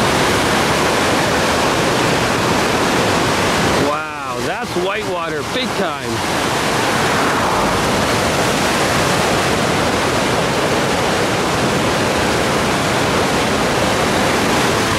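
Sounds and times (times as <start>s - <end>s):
river rapids rushing: 0.0s - 14.9s.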